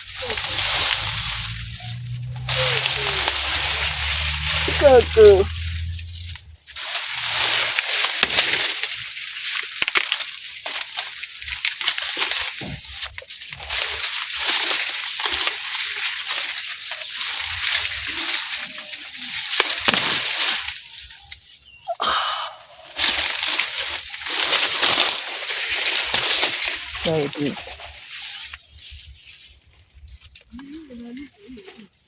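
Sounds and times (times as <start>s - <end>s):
dry leaves rustling and crackling: 0.0s - 32.0s.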